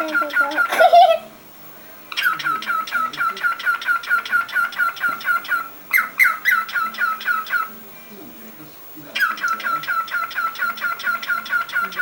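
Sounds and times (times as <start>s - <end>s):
cockatiel chirping: 0.0s - 1.2s, 2.1s - 7.8s, 9.2s - 12.0s.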